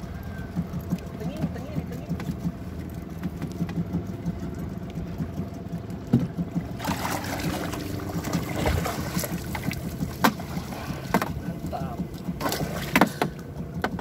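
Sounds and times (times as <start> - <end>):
steady low rumble: 0.0 - 14.0
fish splashing in water: 2.2 - 13.6.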